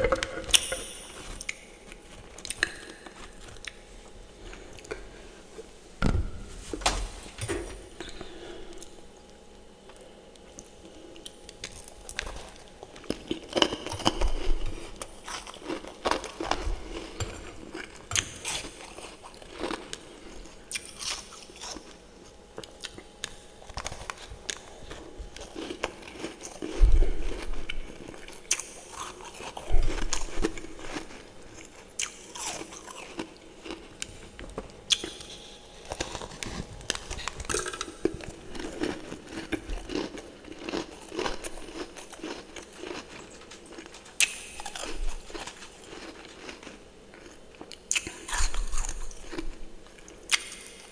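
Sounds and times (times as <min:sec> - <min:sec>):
crunching and chewing frost: 0:00.0 - 0:05.8, 0:07.5 - 0:50.9.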